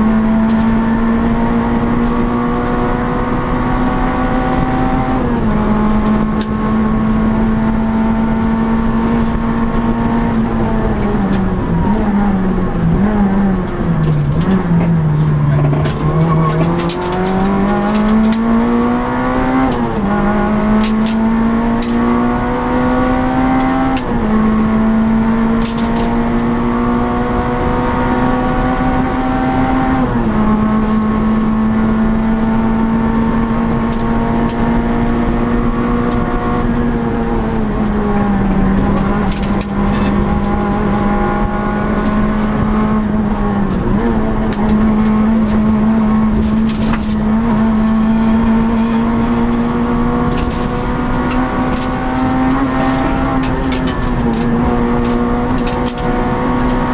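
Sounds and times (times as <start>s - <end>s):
rally car engine at high revs: 0.0s - 56.9s.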